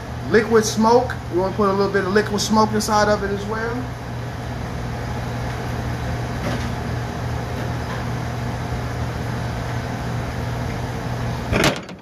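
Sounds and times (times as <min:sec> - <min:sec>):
exhaust hood fan humming: 0:00.0 - 0:12.0.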